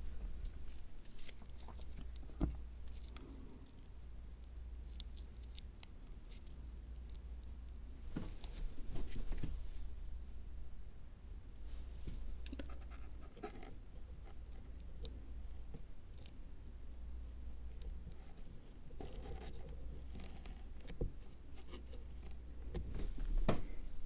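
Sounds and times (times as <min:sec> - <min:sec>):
soft scratching: 0:00.0 - 0:10.0, 0:11.6 - 0:16.4, 0:17.5 - 0:24.0
steady low hum: 0:00.0 - 0:24.0.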